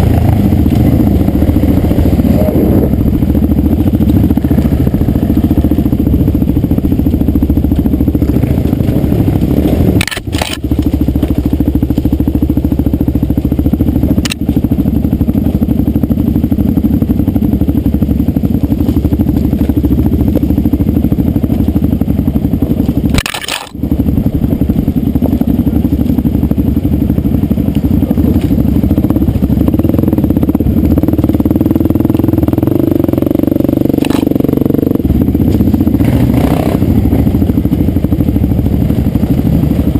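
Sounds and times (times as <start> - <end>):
dirt bike engine under throttle: 0.0 - 39.9.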